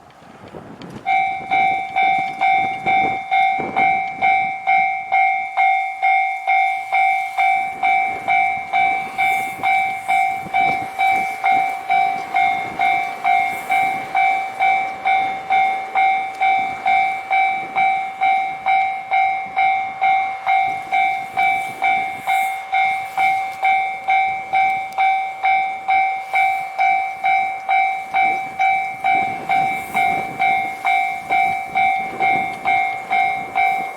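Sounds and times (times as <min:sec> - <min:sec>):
level crossing warning bell: 0:00.9 - 0:33.9.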